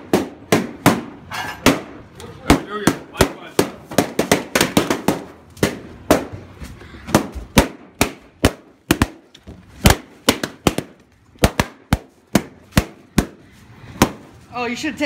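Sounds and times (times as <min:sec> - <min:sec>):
balloons bursting: 0:00.0 - 0:14.5.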